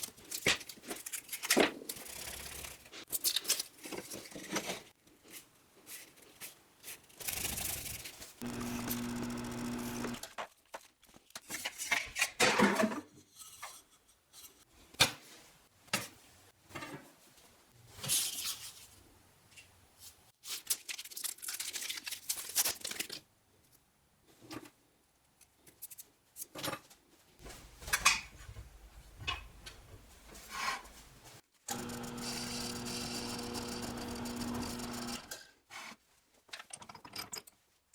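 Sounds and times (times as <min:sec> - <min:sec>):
scrapes and rustles of handwork: 0:00.0 - 0:08.4, 0:10.2 - 0:31.7, 0:35.2 - 0:37.9.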